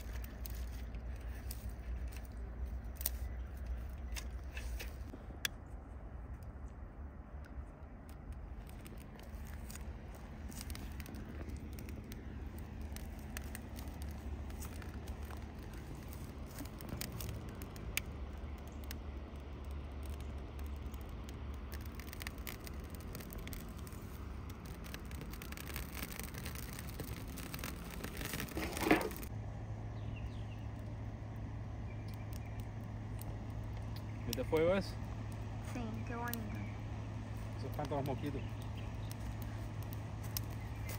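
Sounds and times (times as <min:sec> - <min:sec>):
campfire crackling: 0:00.0 - 0:40.9
low wind rumble: 0:00.0 - 0:40.9.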